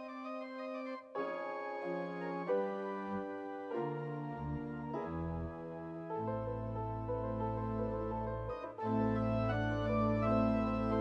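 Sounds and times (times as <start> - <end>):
organ playing sustained chords: 0.0 - 11.0.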